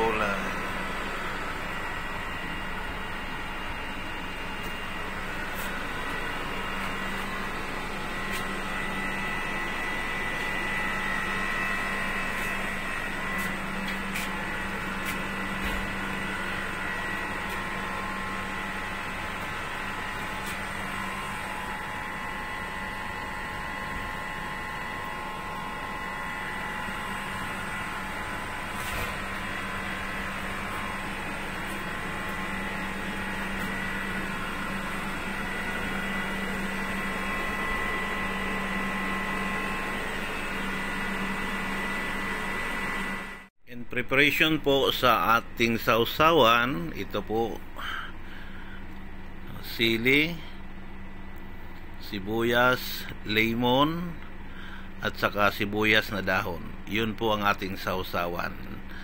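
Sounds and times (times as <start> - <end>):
machine hum with whine: 0.0 - 59.0.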